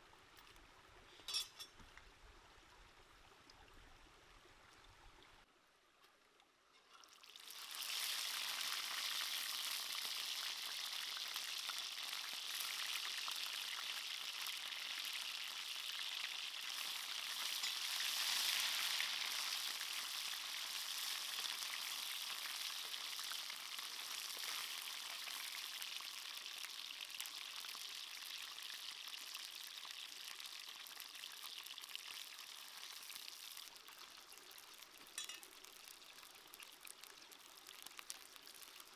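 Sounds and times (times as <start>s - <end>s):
fish sizzling in hot oil: 6.9s - 38.9s.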